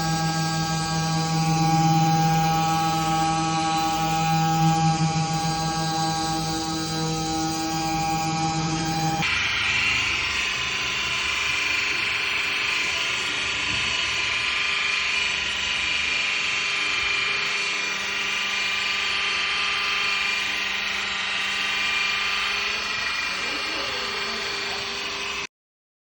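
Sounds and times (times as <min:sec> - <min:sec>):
orbital sander whirring: 0:00.0 - 0:25.4.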